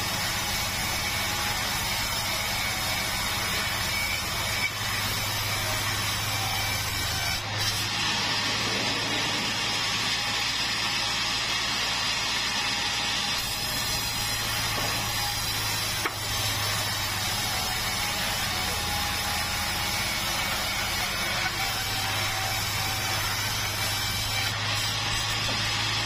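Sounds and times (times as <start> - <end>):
band saw humming and hissing: 0.0 - 26.0.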